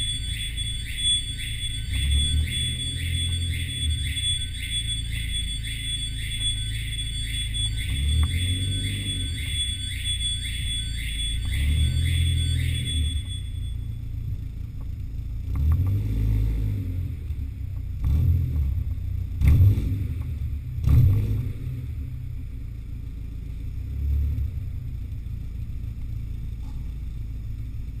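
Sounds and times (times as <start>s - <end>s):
car exhaust rumble revving: 0.0s - 28.0s.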